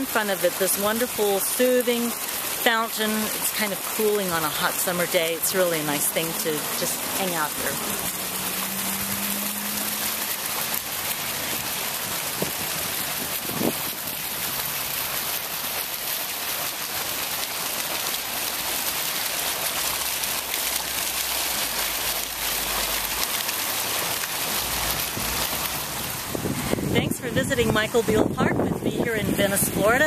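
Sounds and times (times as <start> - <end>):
fountain water splashing: 0.0 - 30.0.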